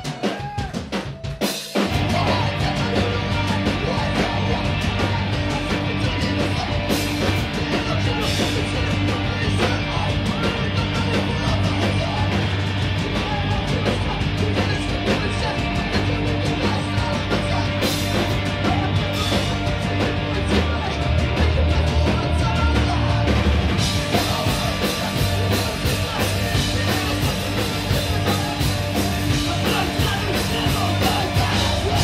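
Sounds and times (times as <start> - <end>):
punk band playing loud: 0.0 - 32.0.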